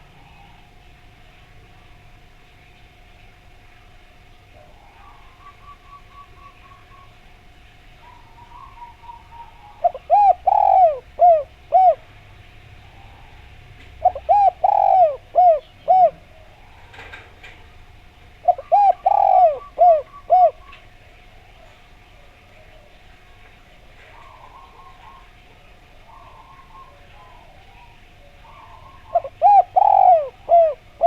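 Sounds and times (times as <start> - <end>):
dove cooing: 0.0 - 0.8, 4.5 - 31.0.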